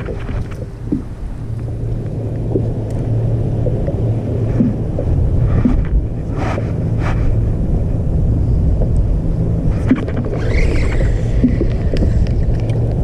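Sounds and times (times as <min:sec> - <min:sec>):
low motor hum: 0:00.0 - 0:13.0
wind rumbling on microphone: 0:00.0 - 0:13.0.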